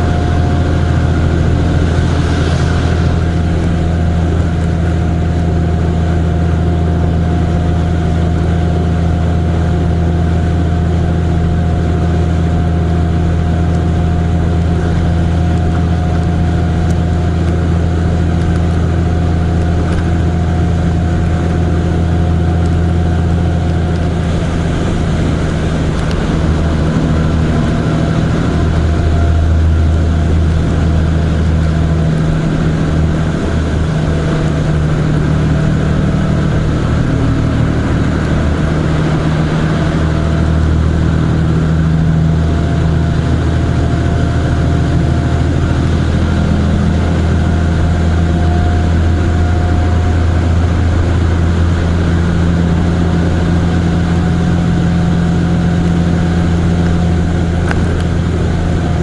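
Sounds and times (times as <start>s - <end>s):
road and wind noise: 0.0s - 59.0s
vehicle engine hum: 0.0s - 59.0s.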